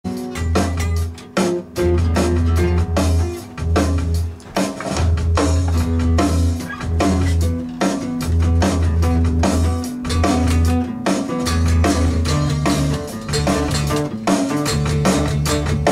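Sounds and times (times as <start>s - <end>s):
drum kit: 0.0s - 15.9s
guitar: 0.0s - 15.9s
held bass guitar notes: 0.1s - 15.9s.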